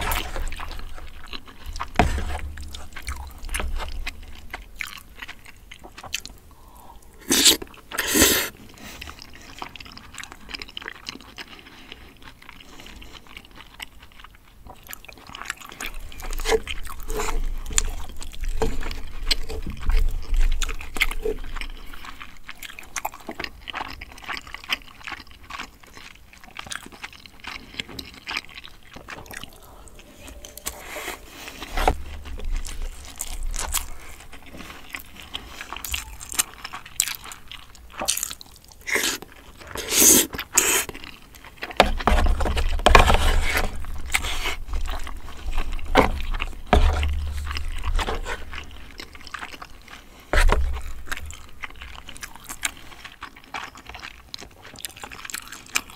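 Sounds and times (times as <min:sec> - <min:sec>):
close chewing and mouth sounds: 0:00.0 - 0:55.9.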